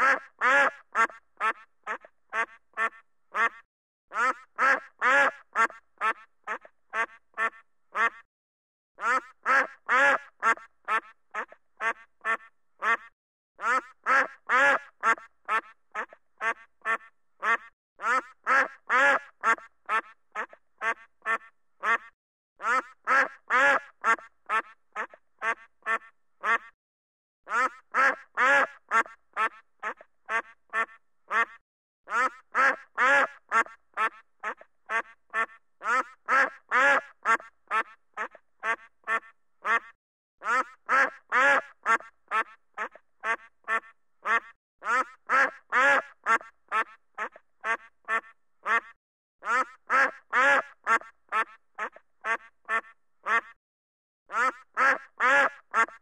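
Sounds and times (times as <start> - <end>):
duck quacking: 0.0 - 8.3, 9.0 - 26.8, 27.5 - 53.6, 54.3 - 56.0.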